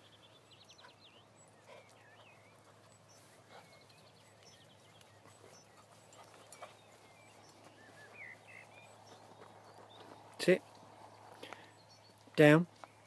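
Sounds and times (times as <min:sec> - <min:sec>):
faint bird chirps and trills: 0:00.0 - 0:13.0.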